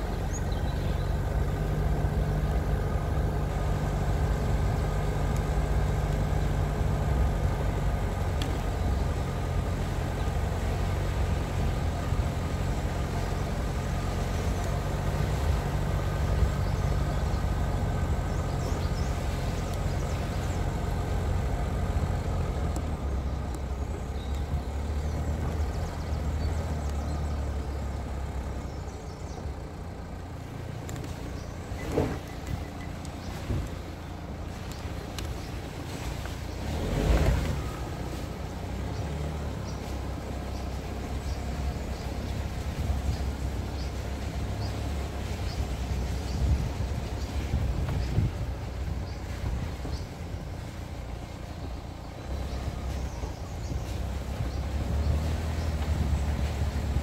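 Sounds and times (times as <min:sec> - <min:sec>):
tyre and road noise: 0:00.0 - 0:57.0
vehicle engine running: 0:00.0 - 0:57.0.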